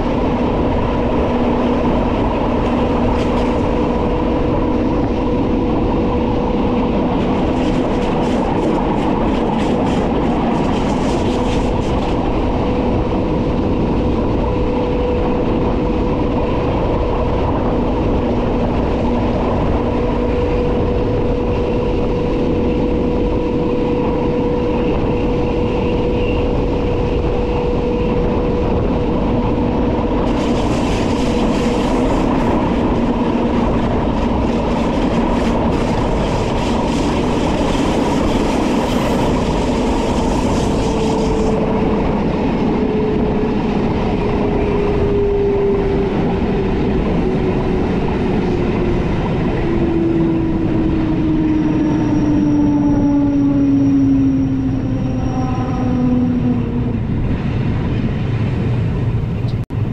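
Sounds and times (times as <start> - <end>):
train motor whine: 0.0 - 57.2
electric train rumble: 0.0 - 59.9.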